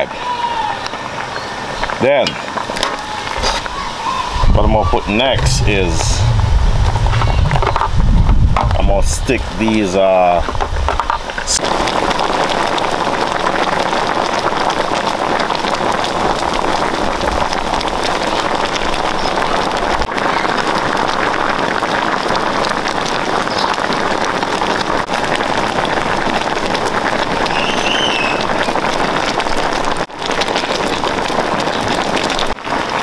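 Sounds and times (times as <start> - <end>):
pot boiling and bubbling: 0.8 - 33.0.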